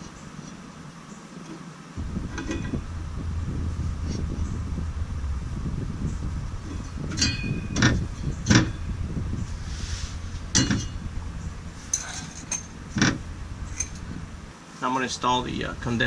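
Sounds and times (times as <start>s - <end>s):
steady low rumble: 2.0s - 16.0s.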